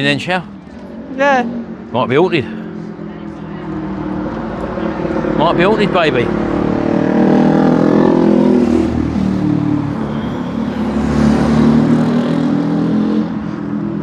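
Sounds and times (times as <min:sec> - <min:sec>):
engine and tyre noise: 0:00.0 - 0:14.0
vehicle driving past: 0:00.4 - 0:14.0.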